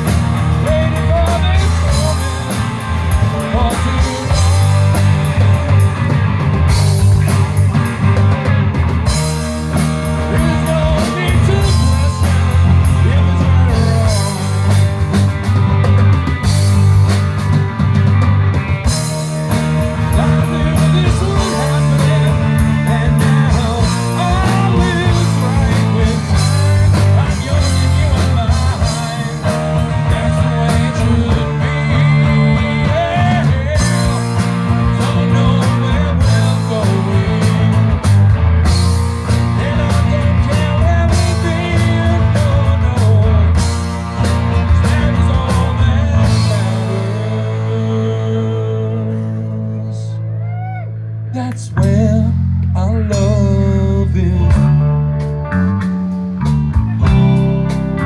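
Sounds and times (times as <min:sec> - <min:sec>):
drum kit: 0:00.0 - 0:48.6, 0:51.7 - 0:58.0
bass guitar: 0:00.0 - 0:58.0
electric guitars: 0:00.0 - 0:58.0
wavering lead guitar line: 0:00.0 - 0:58.0.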